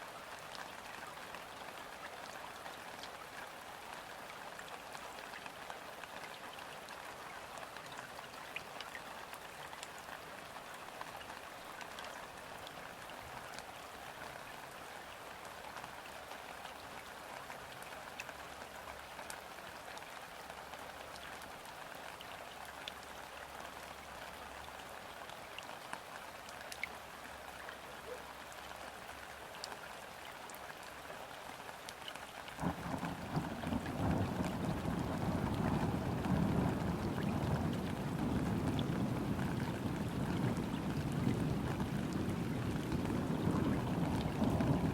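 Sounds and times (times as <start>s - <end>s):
rain falling on water: 0.0s - 44.9s.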